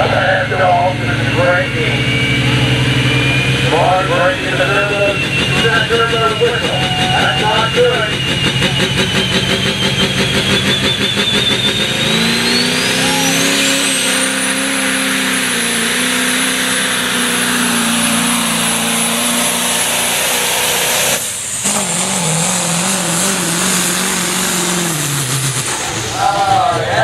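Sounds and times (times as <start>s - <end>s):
truck engine running under load: 0.0s - 27.0s.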